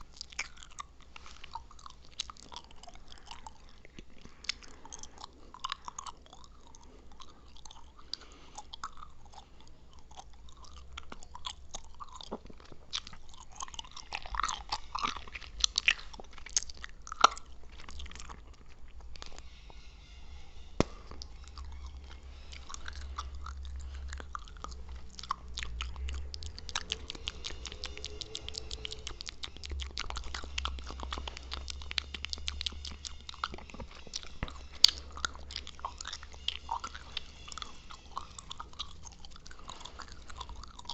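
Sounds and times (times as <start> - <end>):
gum chewing clicks: 0.0 - 19.7, 20.6 - 40.9.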